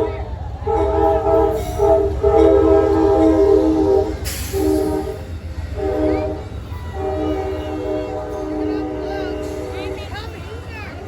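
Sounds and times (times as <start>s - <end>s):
train horn blasts: 0.0s - 10.4s.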